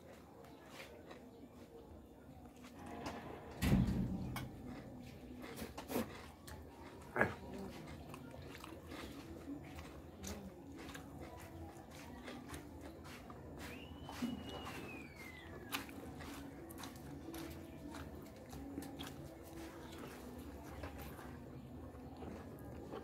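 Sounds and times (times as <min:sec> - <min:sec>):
wet mouth clicks and chewing: 0:04.3 - 0:23.0.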